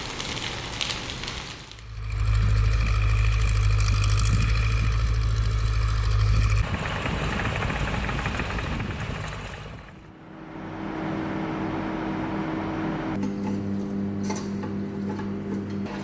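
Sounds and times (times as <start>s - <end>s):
low machine hum: 1.8s - 16.0s.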